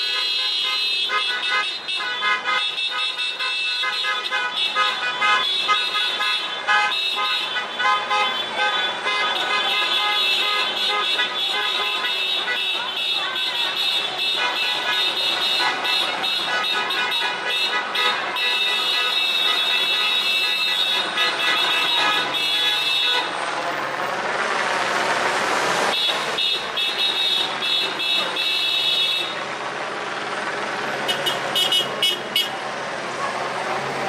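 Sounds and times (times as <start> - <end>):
car horns honking: 0.0 - 23.6, 25.9 - 29.6, 30.2 - 32.6.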